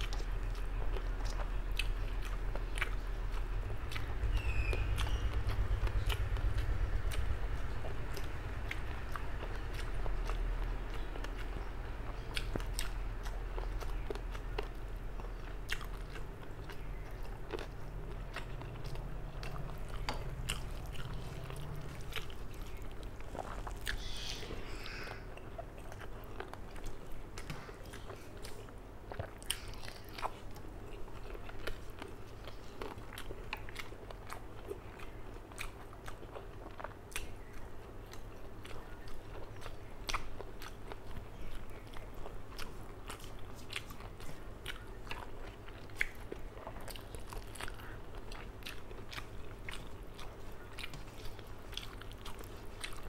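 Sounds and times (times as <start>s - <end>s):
mouth chewing with wet clicks: 0.0s - 53.0s.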